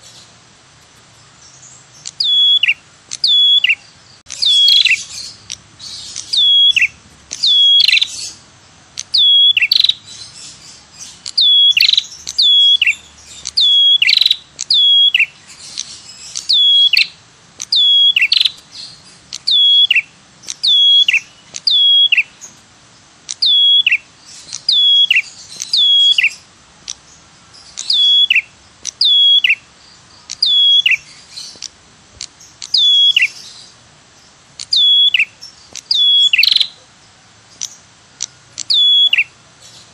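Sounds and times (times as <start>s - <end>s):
songbird sharp high notes: 1.9s - 22.6s, 23.3s - 31.7s, 32.3s - 33.8s, 34.6s - 36.8s, 37.6s - 39.4s.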